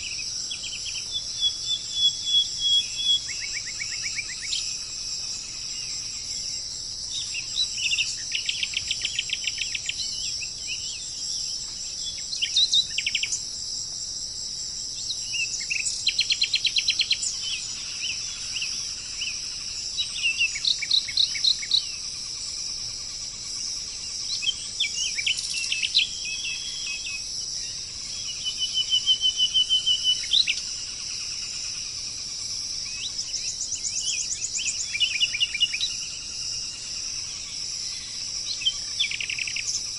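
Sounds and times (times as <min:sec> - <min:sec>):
songbird trilling and chirping: 0:00.0 - 0:13.5, 0:14.9 - 0:39.9
insect buzz: 0:00.0 - 0:39.9.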